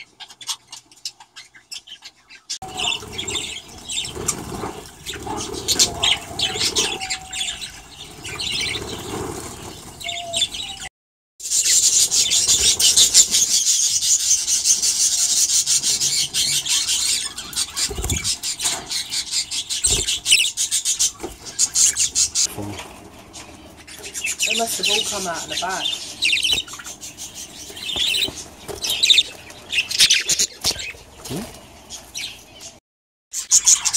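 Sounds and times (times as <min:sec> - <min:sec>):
budgerigars chattering and chirping: 0:00.0 - 0:32.8, 0:33.4 - 0:33.9.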